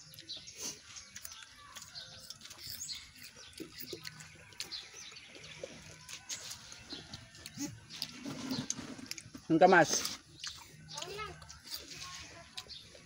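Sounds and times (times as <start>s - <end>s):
crunching chewing: 0.0s - 13.0s.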